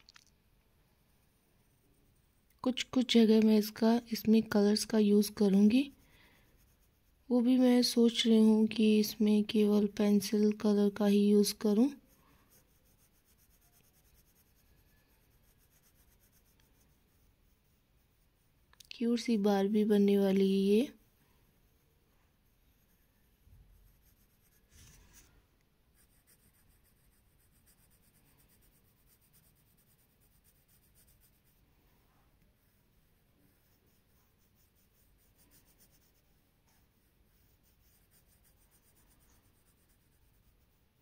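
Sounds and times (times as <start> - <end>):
pencil scratching on paper: 2.7 - 41.0.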